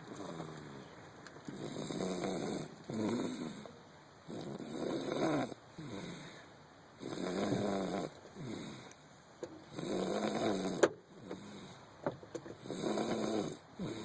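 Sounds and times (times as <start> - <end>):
heavy snoring: 0.1 - 0.9, 1.5 - 6.4, 7.0 - 9.0, 9.7 - 11.8, 12.6 - 14.0.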